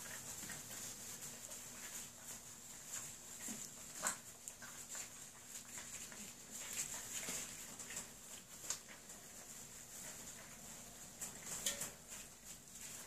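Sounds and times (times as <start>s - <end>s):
puppies crunching dry kibble: 0.0s - 13.0s.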